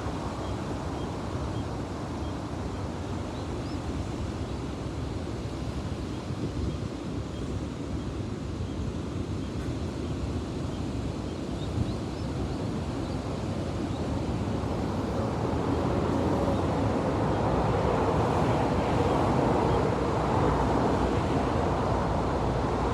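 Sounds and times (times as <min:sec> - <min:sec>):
wind rumbling on microphone: 0:00.0 - 0:08.8, 0:10.7 - 0:22.9.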